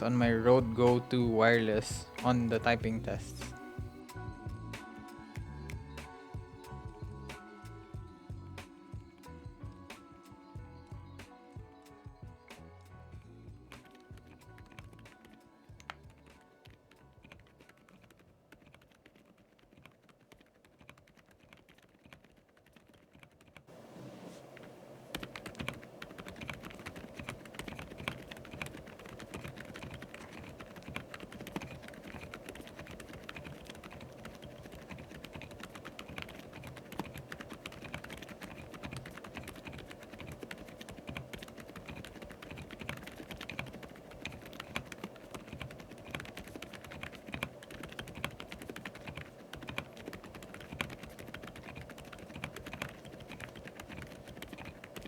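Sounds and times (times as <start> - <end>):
muted mechanical keyboard typing: 0.0 - 4.0, 13.8 - 55.0.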